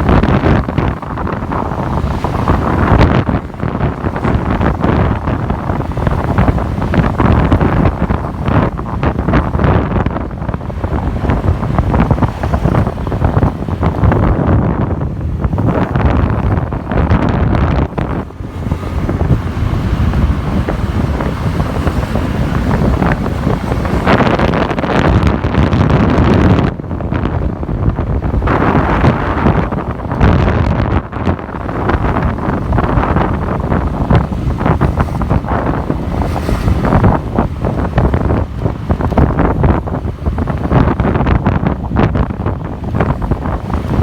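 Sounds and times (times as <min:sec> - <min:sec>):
motorbike engine rumble: 0:00.0 - 0:44.0
road noise: 0:00.0 - 0:44.0
wind buffeting microphone: 0:00.0 - 0:44.0.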